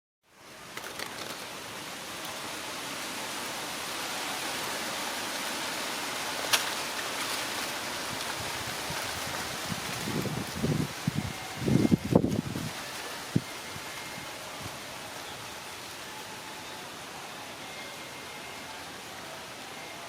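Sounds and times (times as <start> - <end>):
steady rushing noise: 0.4 - 19.8.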